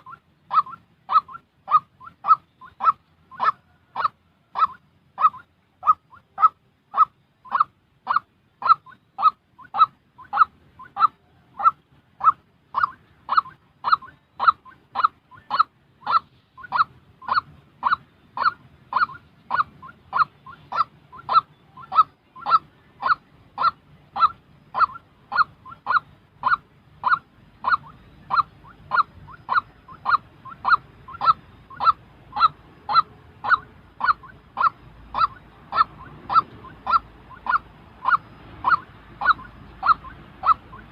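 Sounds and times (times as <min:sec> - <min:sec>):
bird honking calls: 0:00.0 - 0:40.9.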